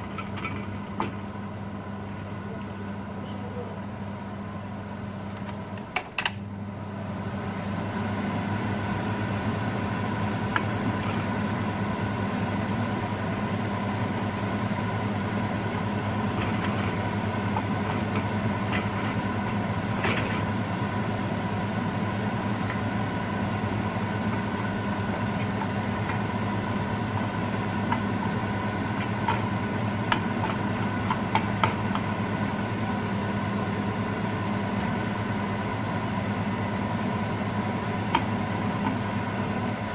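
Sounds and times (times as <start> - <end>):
mechanical fan hum: 0.0 - 39.9.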